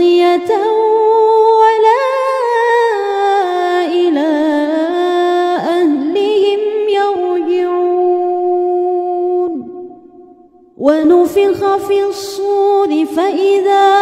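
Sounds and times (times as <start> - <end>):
woman chanting: 0.0 - 9.8, 10.8 - 14.0.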